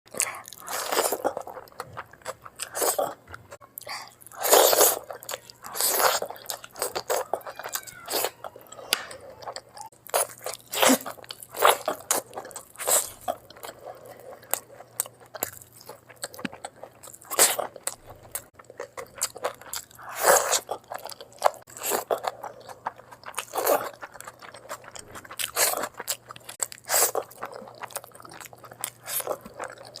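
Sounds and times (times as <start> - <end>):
person crunching and chewing food: 0.1 - 30.0.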